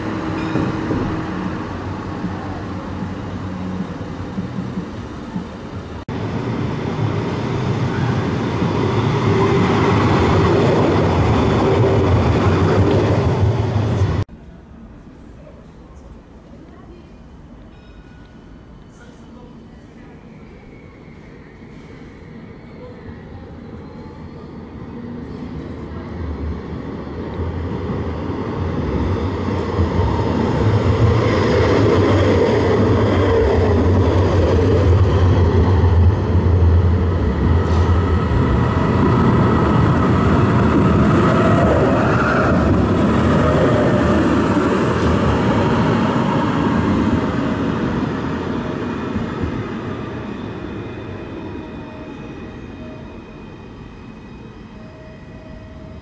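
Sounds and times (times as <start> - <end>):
tram wheels on rails: 0.0 - 56.0.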